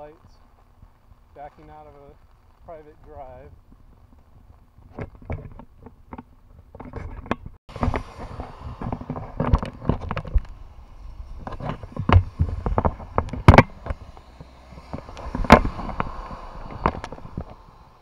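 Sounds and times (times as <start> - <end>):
low rustle: 0.0 - 18.0.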